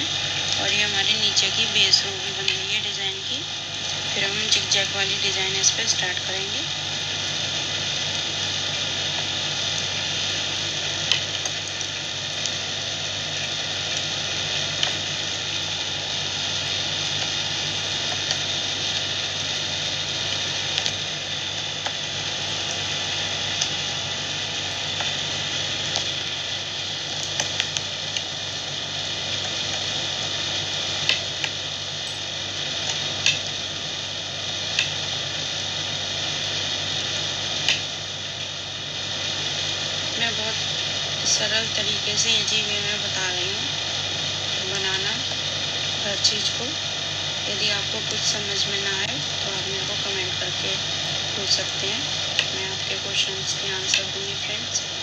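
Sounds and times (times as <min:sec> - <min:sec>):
steady hissing noise: 0:00.0 - 0:55.0.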